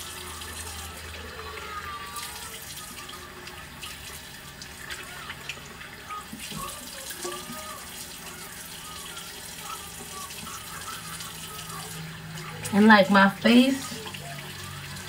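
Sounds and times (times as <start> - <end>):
sink tap running: 0.0 - 15.0.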